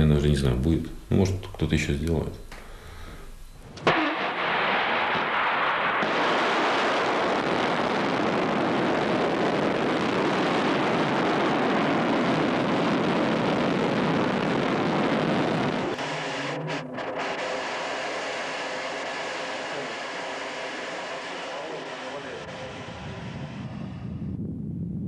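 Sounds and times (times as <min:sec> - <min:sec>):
rocket motor roaring: 0:03.8 - 0:24.6
steady rushing noise: 0:03.9 - 0:25.0.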